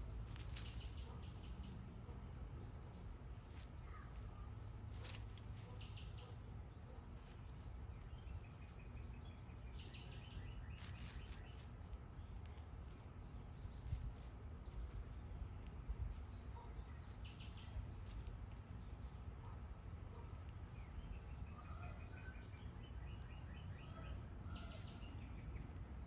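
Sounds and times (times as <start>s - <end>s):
low background rumble: 0.0s - 26.0s
small birds chirping: 0.0s - 26.0s.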